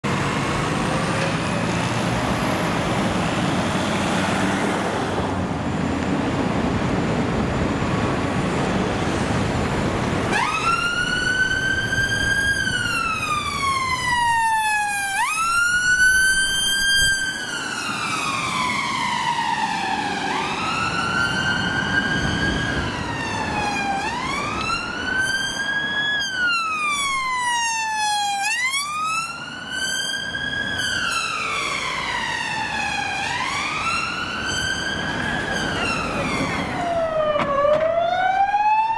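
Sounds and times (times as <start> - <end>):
road noise: 0.0 - 38.9
emergency vehicle siren wailing: 6.3 - 38.9.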